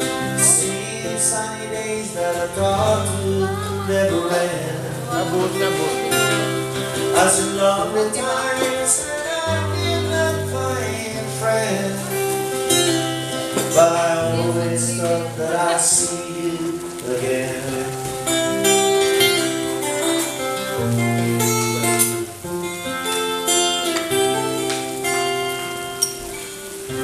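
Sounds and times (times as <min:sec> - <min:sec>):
man singing: 0:00.0 - 0:23.0
acoustic guitar strumming: 0:00.0 - 0:27.0.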